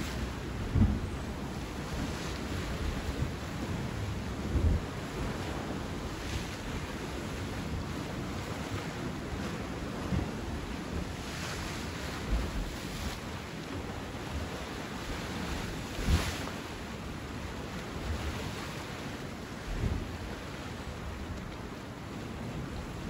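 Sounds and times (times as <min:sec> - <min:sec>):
sea waves washing on shore: 0:00.0 - 0:23.0
wind buffeting microphone: 0:00.0 - 0:23.0.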